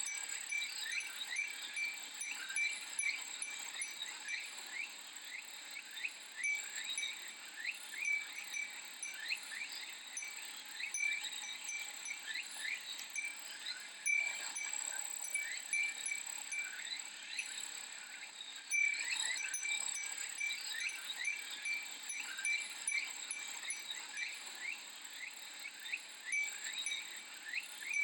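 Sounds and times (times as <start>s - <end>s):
wind chime dings: 0.0s - 4.8s, 6.4s - 17.7s, 18.7s - 24.8s, 26.3s - 28.0s
cicadas droning: 0.1s - 28.0s.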